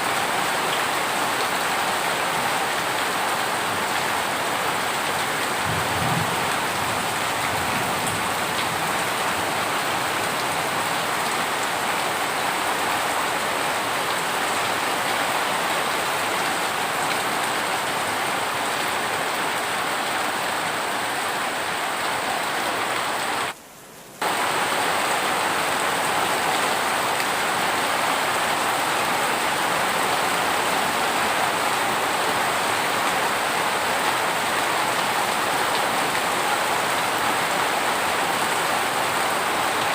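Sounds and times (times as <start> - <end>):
heavy rain falling: 0.0 - 23.6, 24.2 - 39.9.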